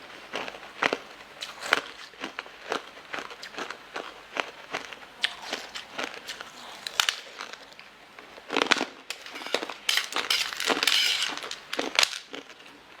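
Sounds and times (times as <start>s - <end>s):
chewing crunchy food: 0.0s - 13.0s.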